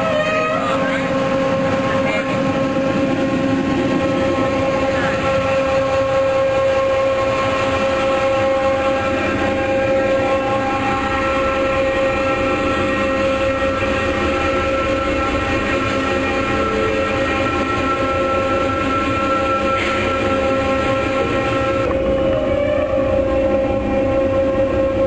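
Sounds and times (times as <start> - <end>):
high machinery whine: 0.0 - 25.0.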